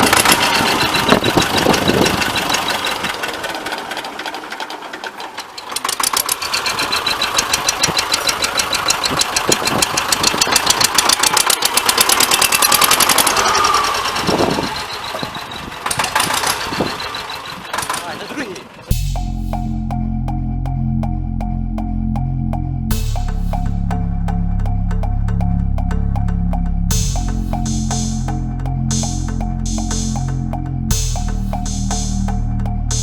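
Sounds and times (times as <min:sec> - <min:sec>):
tractor diesel engine knocking: 0:00.0 - 0:33.0.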